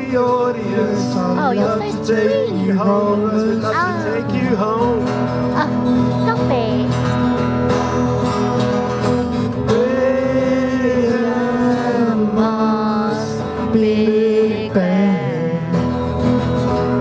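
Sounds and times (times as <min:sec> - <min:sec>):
acoustic guitars strumming: 0:00.0 - 0:17.0.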